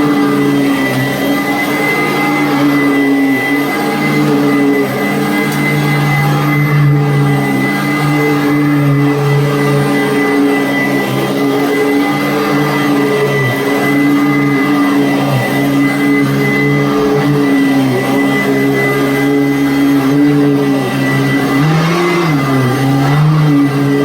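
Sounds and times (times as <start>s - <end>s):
vacuum cleaner whining: 0.0s - 24.0s.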